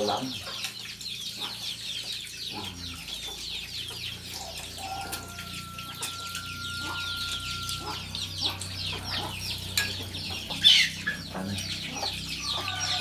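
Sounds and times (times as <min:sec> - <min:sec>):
chickens clucking and peeping: 0:00.0 - 0:13.0.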